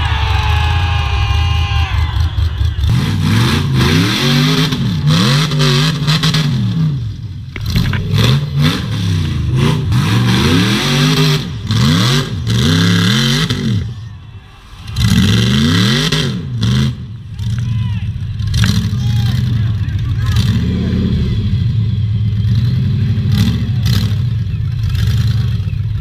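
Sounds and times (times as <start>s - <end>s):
buggy engine revving hard: 0.0s - 14.0s, 14.9s - 26.0s.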